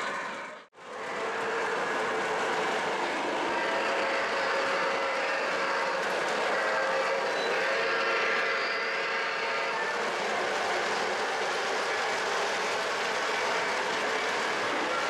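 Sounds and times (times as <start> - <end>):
model train wheels clattering: 1.0 - 15.0.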